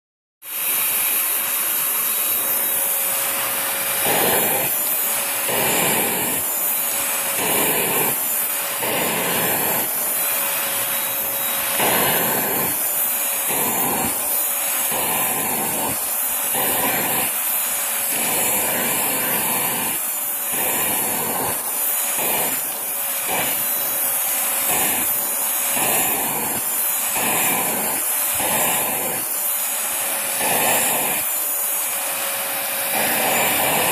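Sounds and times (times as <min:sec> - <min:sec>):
vacuum cleaner suction hiss: 0:00.4 - 0:33.9.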